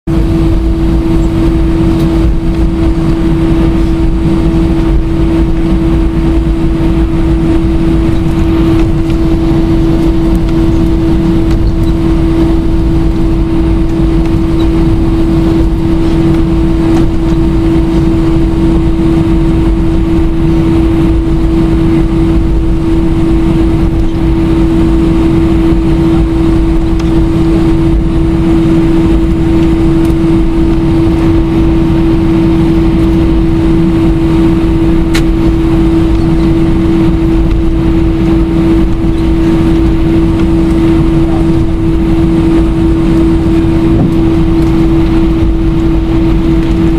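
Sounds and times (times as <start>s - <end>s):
jet engines rumbling: 0.1s - 46.9s.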